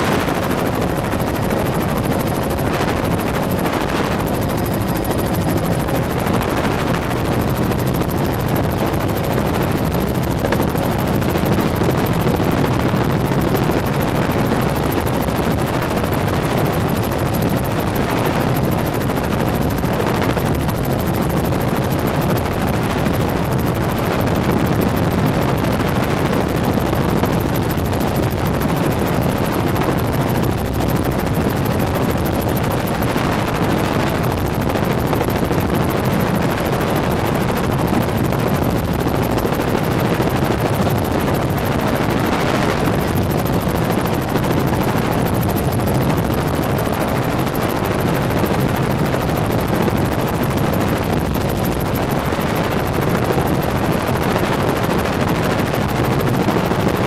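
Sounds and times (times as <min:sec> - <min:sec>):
helicopter cabin drone: 0:00.0 - 0:57.0.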